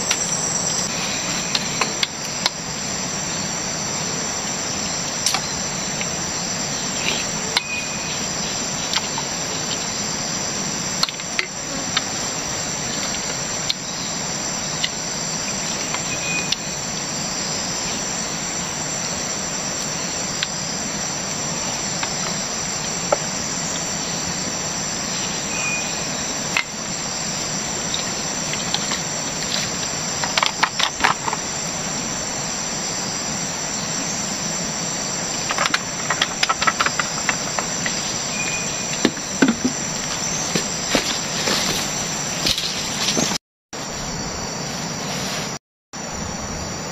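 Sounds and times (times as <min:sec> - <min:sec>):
insect chorus: 0:00.0 - 0:46.9.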